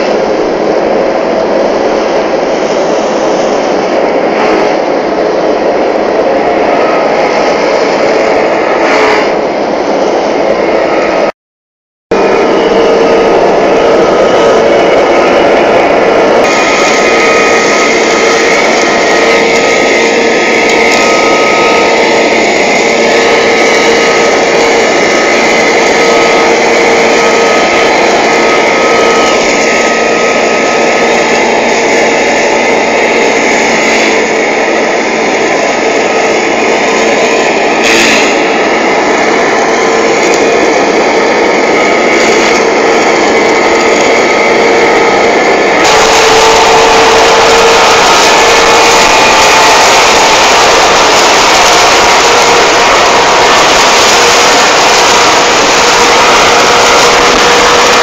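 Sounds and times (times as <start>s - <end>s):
stump grinder whining: 0.0s - 11.3s, 12.1s - 58.0s.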